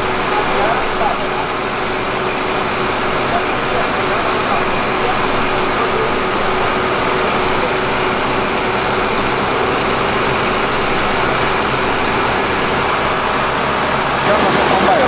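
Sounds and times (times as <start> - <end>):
drainage pumps droning: 0.0 - 15.0.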